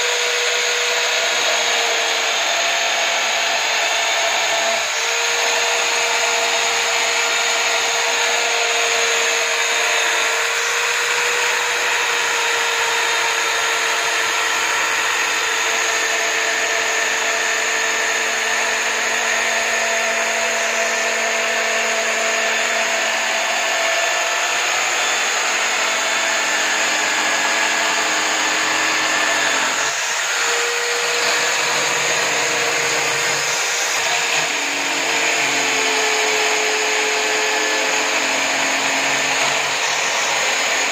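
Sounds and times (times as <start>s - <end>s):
drill sanding wood: 0.0s - 40.9s.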